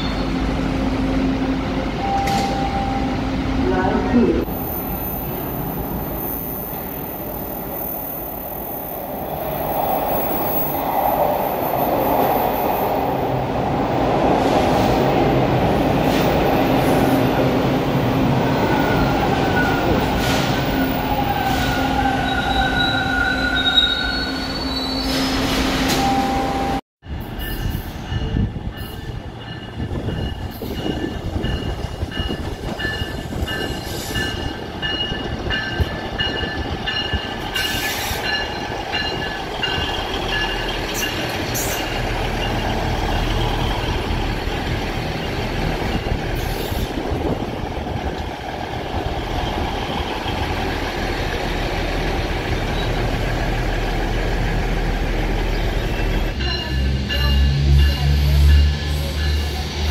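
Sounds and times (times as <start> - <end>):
train engines and wheels rumbling: 0.0 - 59.9.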